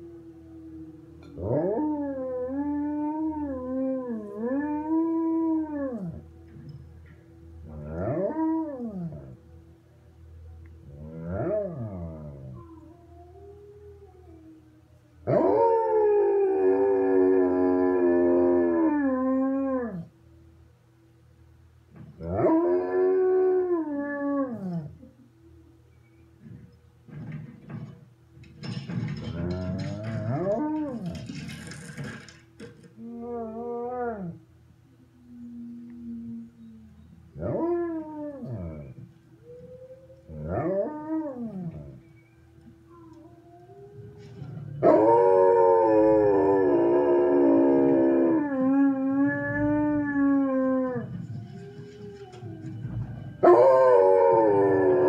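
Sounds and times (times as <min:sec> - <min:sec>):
dog howling: 0:00.0 - 0:06.4, 0:07.6 - 0:09.4, 0:10.8 - 0:20.1, 0:22.2 - 0:25.2, 0:28.6 - 0:34.5, 0:35.2 - 0:55.0.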